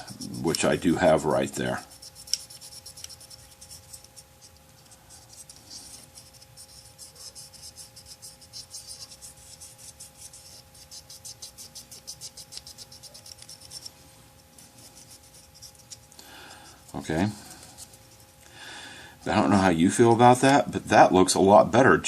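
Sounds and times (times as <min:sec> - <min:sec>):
paintbrush scratching strokes: 0:00.0 - 0:18.4, 0:19.3 - 0:20.3.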